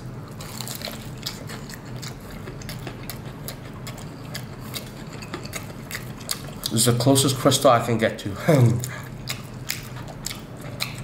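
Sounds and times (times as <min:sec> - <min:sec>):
crispy chicken being chewed: 0:00.0 - 0:07.6, 0:08.5 - 0:11.0.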